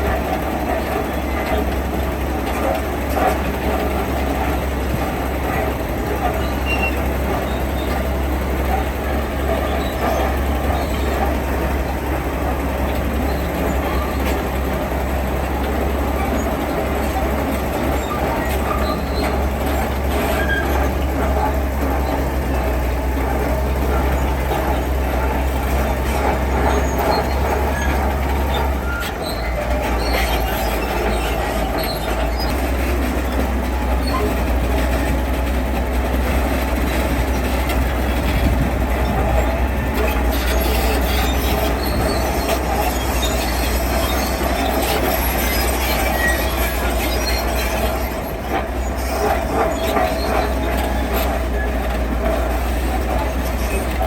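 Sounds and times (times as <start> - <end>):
diesel engine droning: 0.0 - 54.0
metal tracks clanking and squealing: 0.0 - 54.0.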